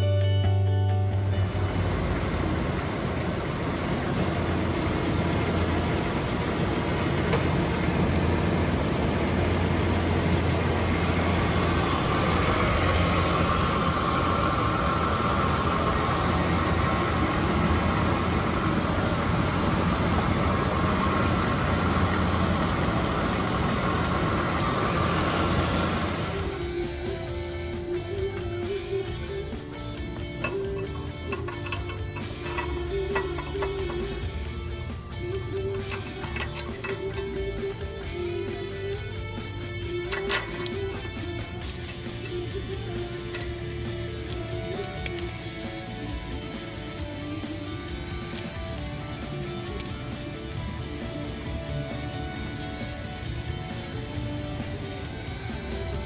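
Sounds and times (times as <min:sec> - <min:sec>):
car engine drone: 0:00.8 - 0:56.0.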